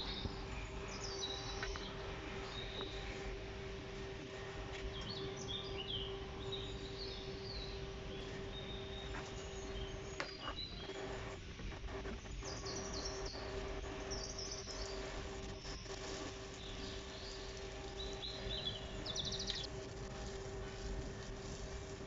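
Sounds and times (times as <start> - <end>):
birds chirping: 0.0 - 22.0
low hum: 0.0 - 22.0.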